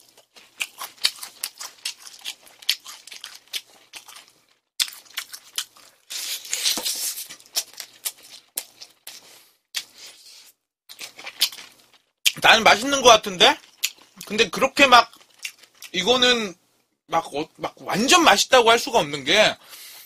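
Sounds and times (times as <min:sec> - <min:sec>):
crunching fried chicken: 0:00.0 - 0:16.4.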